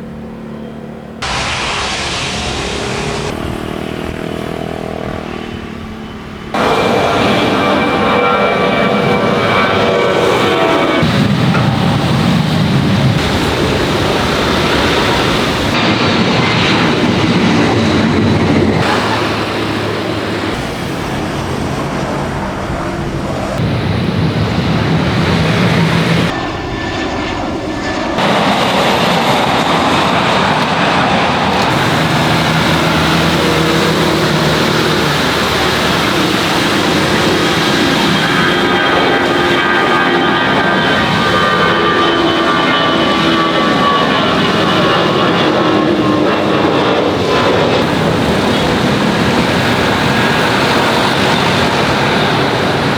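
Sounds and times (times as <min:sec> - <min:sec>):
jet airliner engines: 0:00.0 - 0:52.9.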